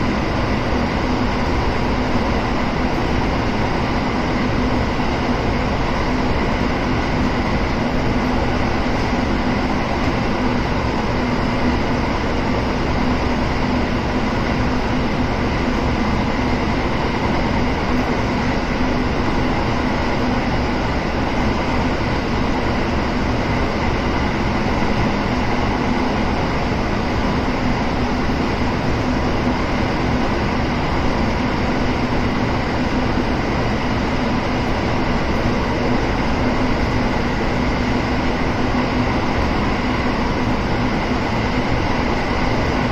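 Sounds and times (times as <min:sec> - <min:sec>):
train drive hum: 0:00.0 - 0:42.9
train wheels on rail: 0:00.0 - 0:42.9.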